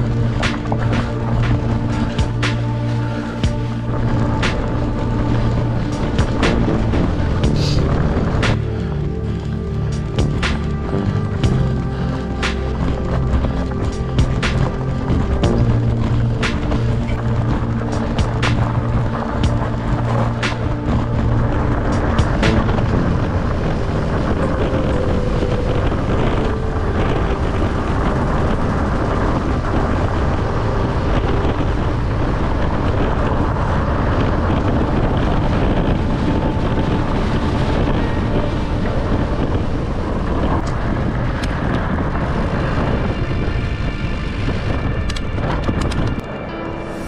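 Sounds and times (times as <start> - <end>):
bike tyres rumbling on dirt: 0.0 - 46.2
wind buffeting microphone: 0.0 - 47.0.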